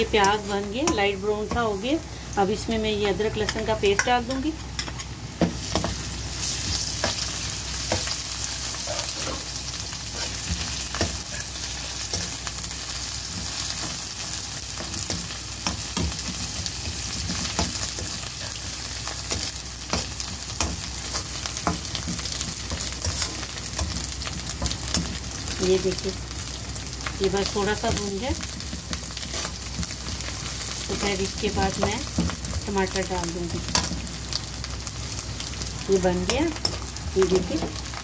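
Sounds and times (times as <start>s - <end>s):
onions sizzling in hot oil: 0.0s - 38.0s.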